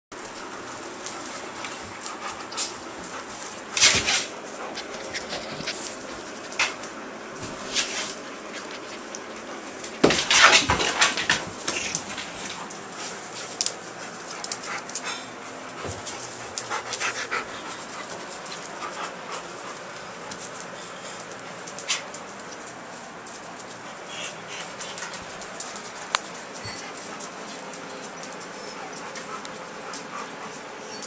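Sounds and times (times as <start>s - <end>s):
puppies panting: 0.2s - 7.4s, 11.2s - 31.0s
puppies scuffling: 0.2s - 31.0s.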